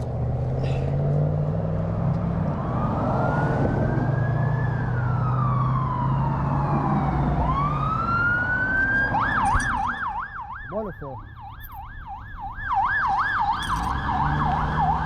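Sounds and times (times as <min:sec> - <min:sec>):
emergency vehicle siren wailing: 0:01.7 - 0:15.0.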